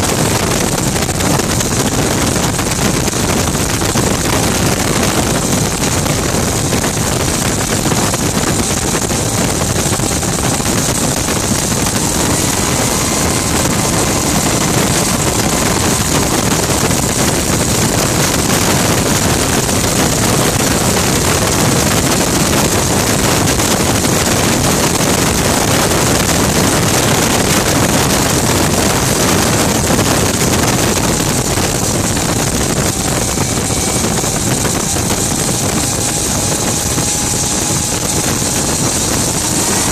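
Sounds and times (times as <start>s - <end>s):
gas turbine engine rushing: 0.0s - 39.9s
wind on microphone: 0.0s - 39.9s.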